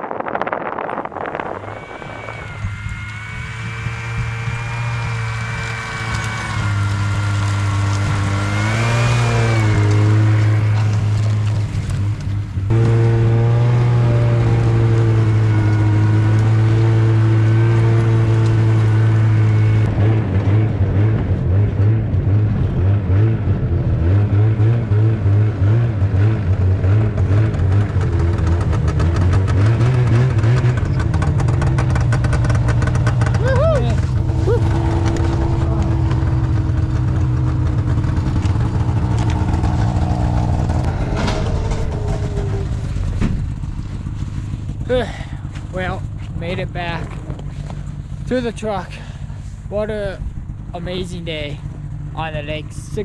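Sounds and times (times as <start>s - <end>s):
snowmobile engine running: 0.0s - 53.0s.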